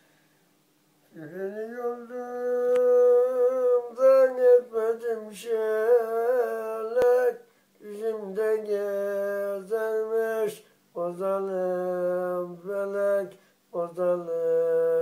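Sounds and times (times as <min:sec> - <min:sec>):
solo voice singing a lament: 0:01.1 - 0:15.0.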